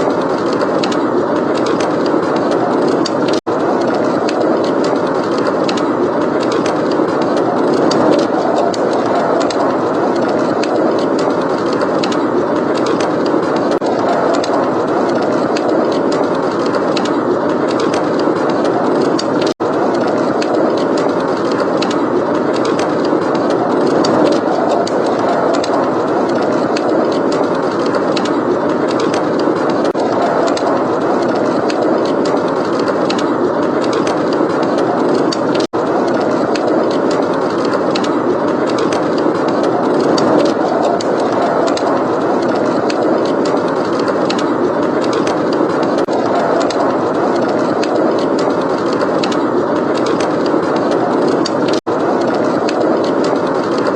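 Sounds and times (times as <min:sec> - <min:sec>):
blizzard wind: 0:00.0 - 0:53.9
fireplace crackling: 0:00.9 - 0:53.9.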